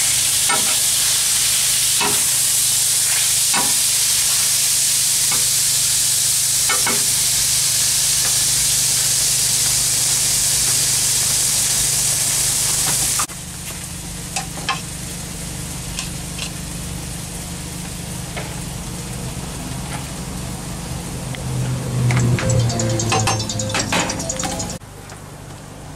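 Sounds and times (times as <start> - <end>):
chicken sizzling on a griddle: 0.0 - 21.3.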